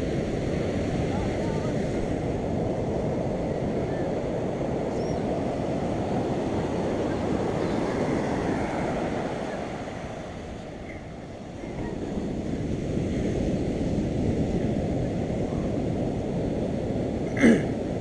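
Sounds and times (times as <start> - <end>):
surf washing on a beach: 0.0 - 18.0
wind buffeting the microphone: 0.0 - 18.0.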